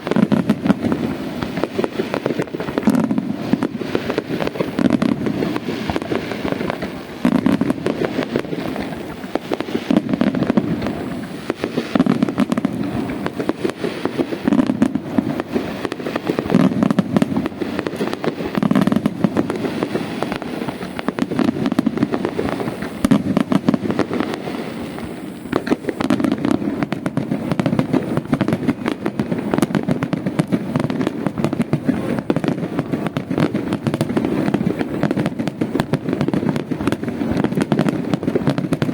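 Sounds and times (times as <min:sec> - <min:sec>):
firework shell bursts booming: 0:00.0 - 0:38.9
fireworks crackling and popping: 0:00.0 - 0:38.9.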